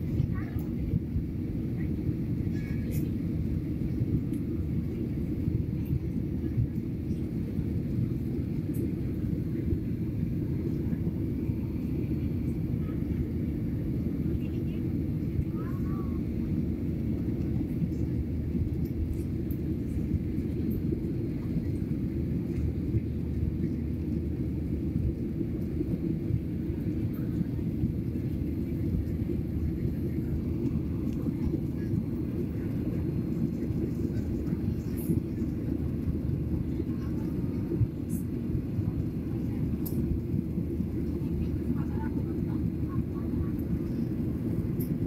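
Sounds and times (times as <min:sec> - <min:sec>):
jet engine cabin rumble: 0:00.0 - 0:45.0.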